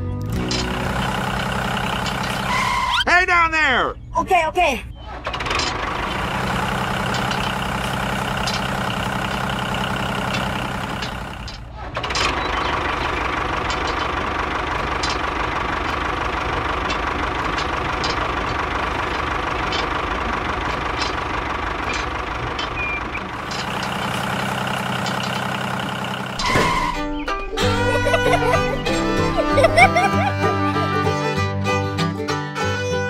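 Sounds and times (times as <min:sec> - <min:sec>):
tractor diesel engine chugging: 0:00.4 - 0:03.0, 0:05.2 - 0:33.0.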